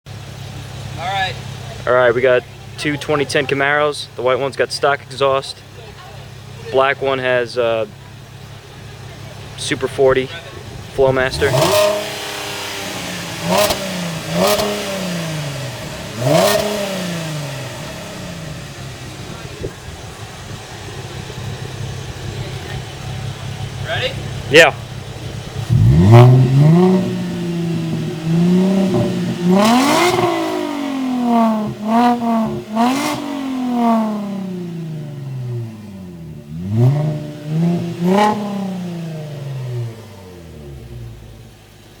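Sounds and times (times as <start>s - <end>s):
car engine revving: 0.1s - 42.0s.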